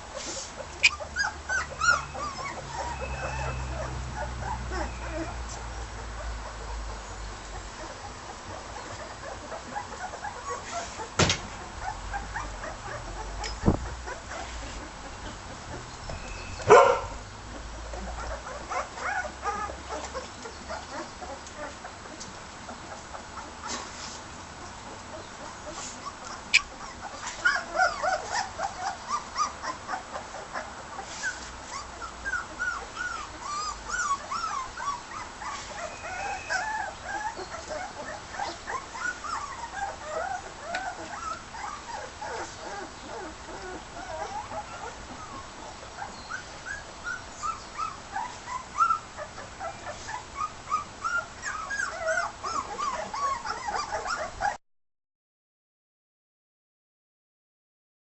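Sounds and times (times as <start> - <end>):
puppies whimpering and squeaking: 0.0 - 54.6.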